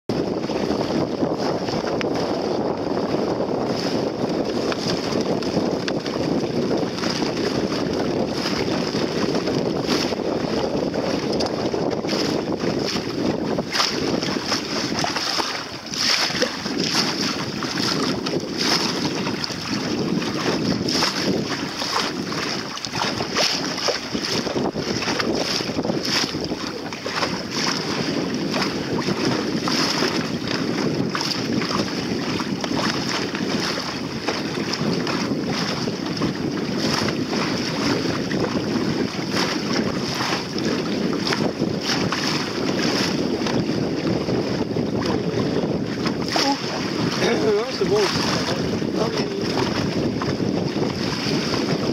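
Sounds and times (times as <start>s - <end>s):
water slapping hull: 0.1s - 51.9s
water splashing against hull: 0.1s - 51.9s
wind buffeting microphone: 0.1s - 51.9s.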